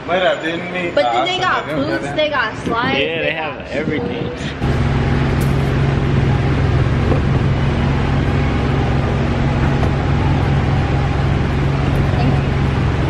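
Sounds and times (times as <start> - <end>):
loud mechanical hum: 0.0 - 13.0.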